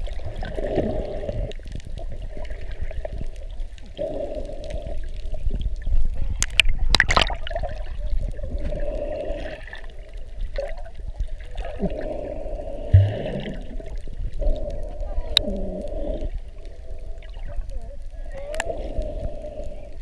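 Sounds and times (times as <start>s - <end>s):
muffled underwater rumble: 0.0s - 20.0s
water splashes: 0.0s - 20.0s.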